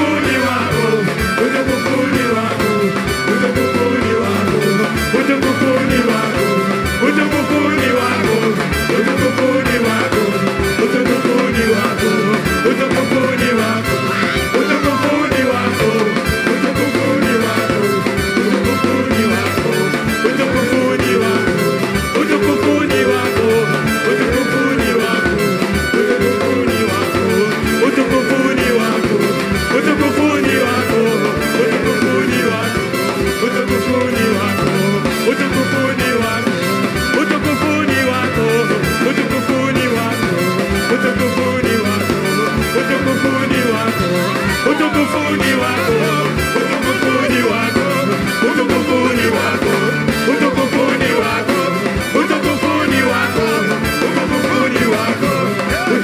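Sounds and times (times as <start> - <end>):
upbeat band music: 0.0 - 56.0.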